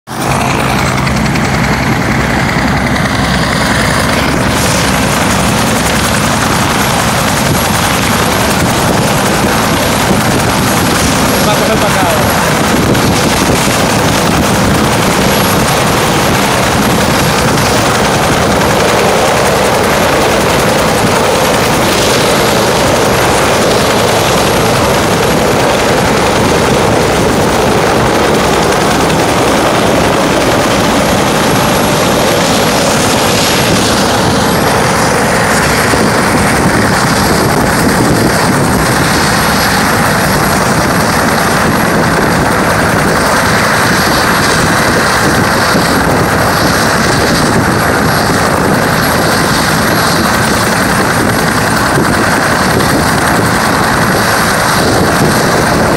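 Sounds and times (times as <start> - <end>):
helicopter rotor and turbine: 0.0 - 55.9.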